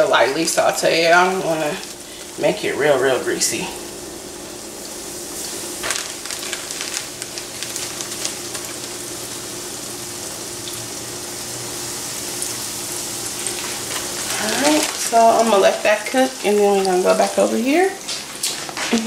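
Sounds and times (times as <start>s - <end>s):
fish frying in oil: 0.0s - 19.0s.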